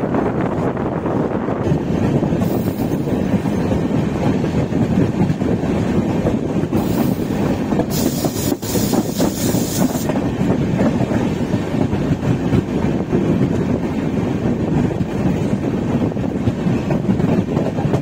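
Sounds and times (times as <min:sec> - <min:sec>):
train wheels rattling on rails: 0:00.0 - 0:18.0.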